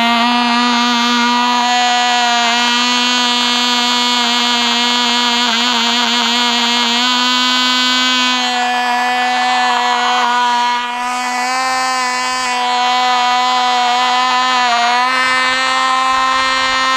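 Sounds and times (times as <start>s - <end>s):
small engine buzzing whine: 0.0s - 16.9s.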